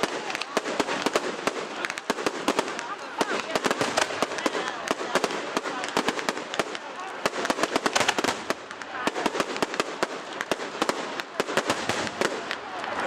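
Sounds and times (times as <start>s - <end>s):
fireworks cracking and banging: 0.0s - 13.0s
people's voices: 0.0s - 13.0s.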